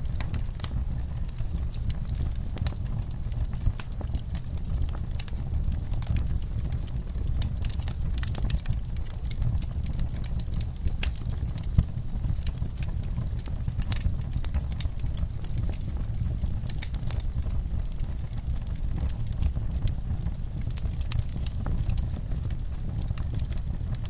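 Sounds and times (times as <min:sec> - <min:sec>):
wood fire burning in fireplace: 0:00.0 - 0:24.0.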